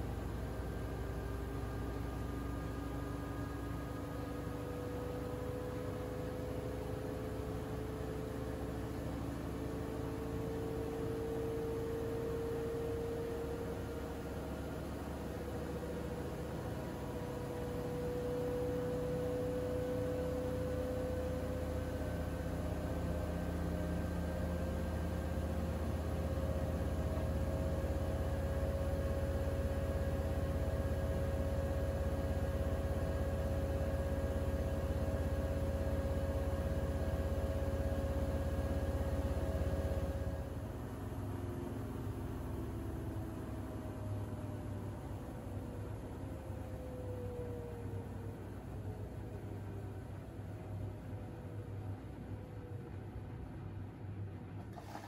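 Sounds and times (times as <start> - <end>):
washing machine motor whine: 0.0 - 55.0.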